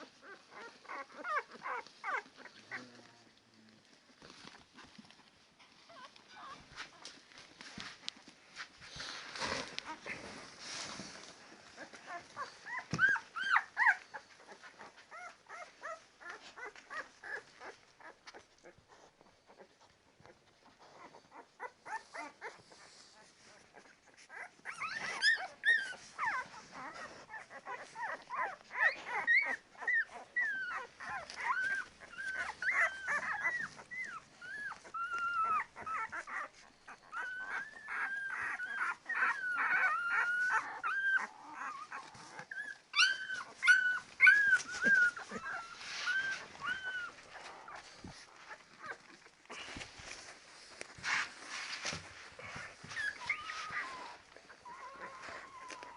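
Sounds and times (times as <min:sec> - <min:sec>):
puppies whimpering and squeaking: 0:00.0 - 0:55.9.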